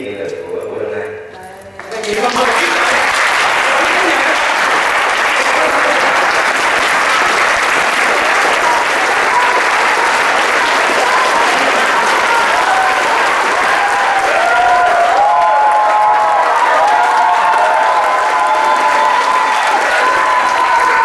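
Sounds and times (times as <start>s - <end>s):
people clapping: 1.8s - 21.0s.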